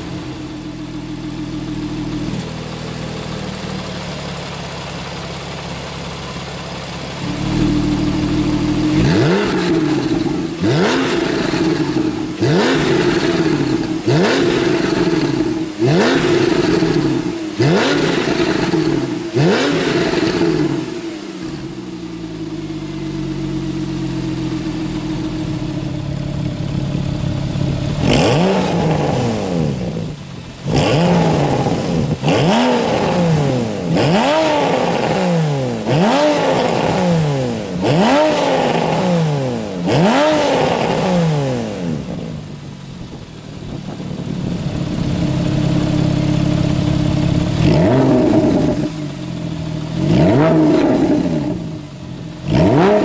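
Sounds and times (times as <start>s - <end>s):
car engine idling: 0.0s - 53.0s
car engine revving: 0.0s - 53.0s.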